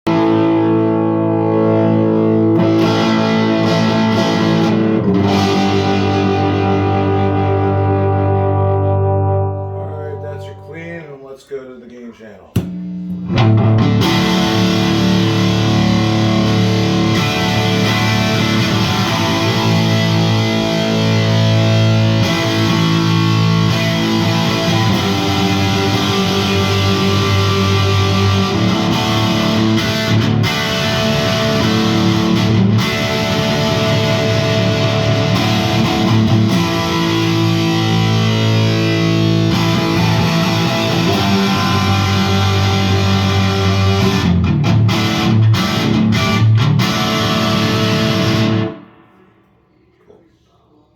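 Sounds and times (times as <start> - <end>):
overdriven electric guitar chords: 0.0 - 10.7, 12.6 - 49.3.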